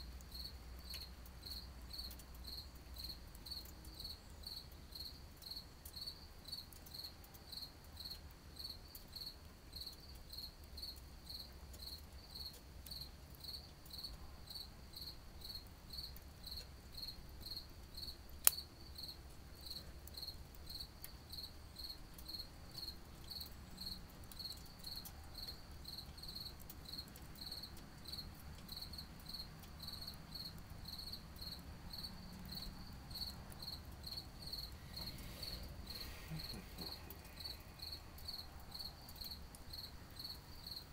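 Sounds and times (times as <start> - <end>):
cricket chirping: 0.2 - 40.9.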